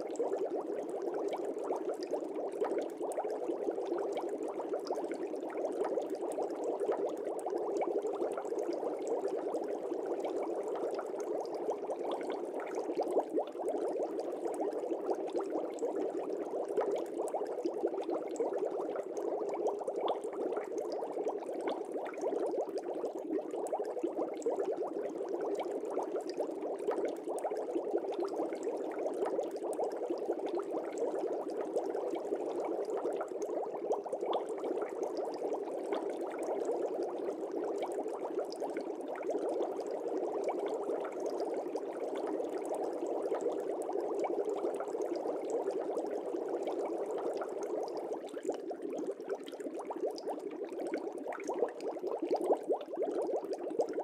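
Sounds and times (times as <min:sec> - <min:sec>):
air bubbles in tank water: 0:00.0 - 0:54.0.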